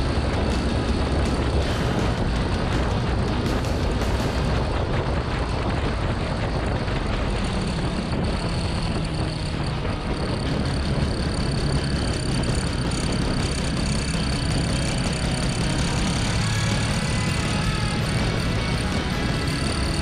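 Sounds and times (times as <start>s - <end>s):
motorcycle engine at speed: 0.0s - 20.0s
thin high whine: 0.0s - 20.0s
wind noise: 0.0s - 20.0s.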